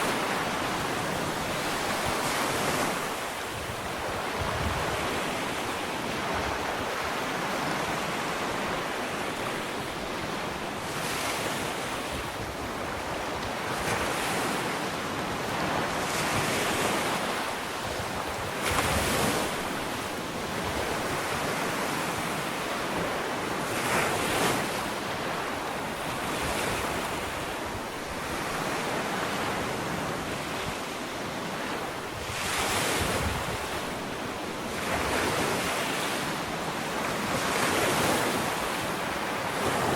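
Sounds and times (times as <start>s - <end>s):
ocean waves breaking on beach: 0.0s - 39.9s
wind on microphone: 0.0s - 39.9s.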